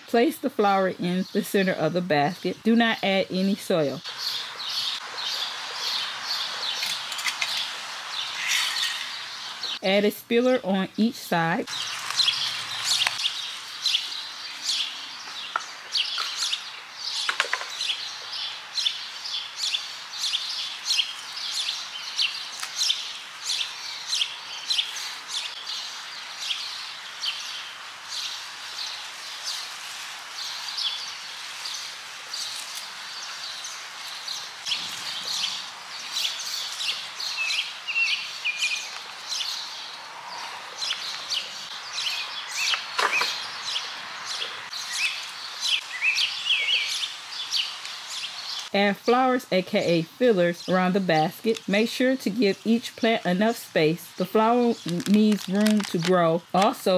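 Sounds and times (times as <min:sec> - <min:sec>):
many birds chirping: 0:00.0 - 0:09.8, 0:10.4 - 0:56.9.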